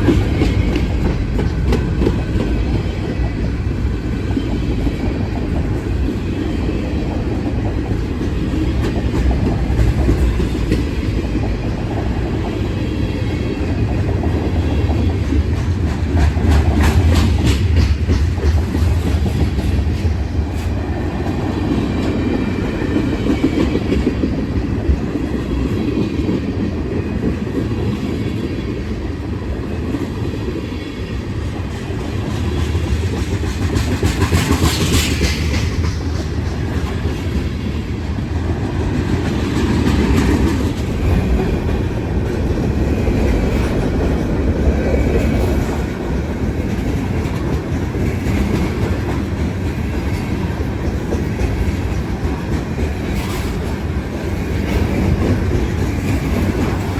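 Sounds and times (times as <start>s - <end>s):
train wheels clacking: 0.0s - 56.9s.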